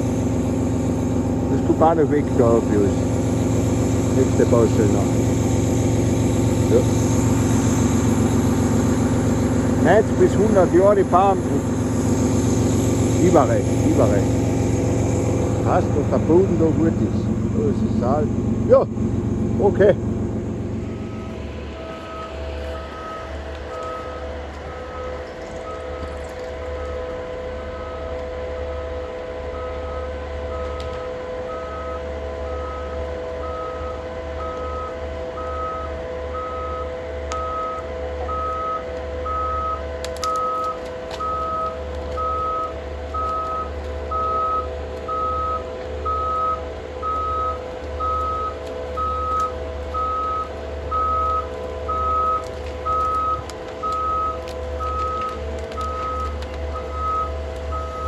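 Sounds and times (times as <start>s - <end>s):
diesel engine running: 0.0s - 58.0s
reverse alarm beeping: 1.5s - 58.0s.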